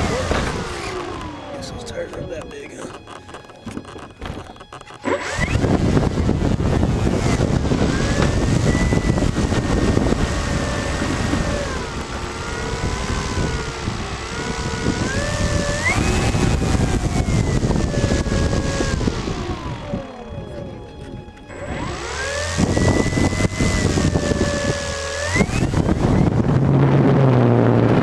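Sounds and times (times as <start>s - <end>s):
wind rushing over microphone: 0.0s - 3.0s, 5.1s - 28.0s
model airplane motor whining: 0.0s - 28.0s.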